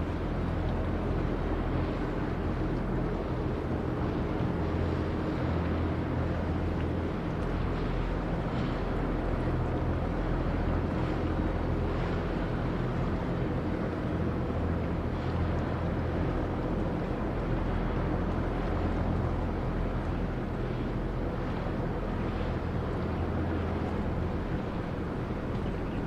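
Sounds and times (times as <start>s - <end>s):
barge engine droning: 0.0s - 26.0s.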